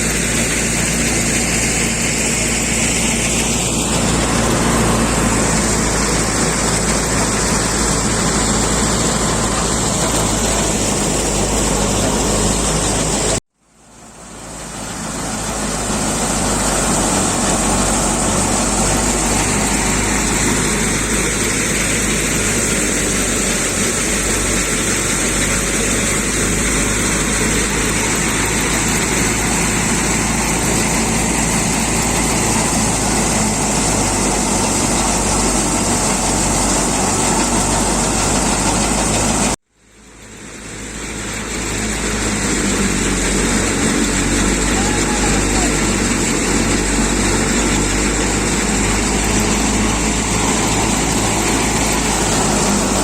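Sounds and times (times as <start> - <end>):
thresher running: 0.0 - 53.0.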